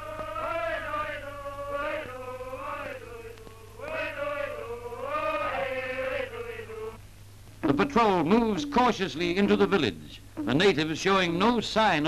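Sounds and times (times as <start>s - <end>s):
voices chanting: 0.0s - 7.0s, 7.6s - 10.8s
low hum: 1.2s - 11.0s.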